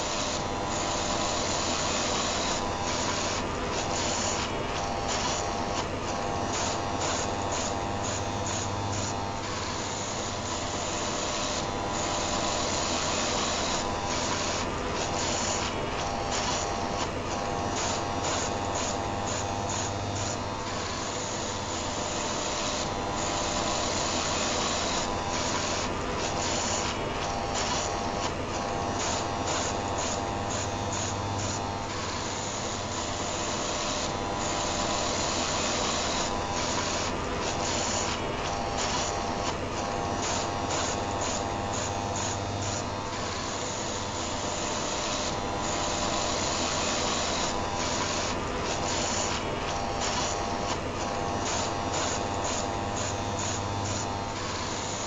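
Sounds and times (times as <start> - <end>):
electric heater whirring: 0.0 - 55.0
electric shaver buzzing: 0.0 - 55.0.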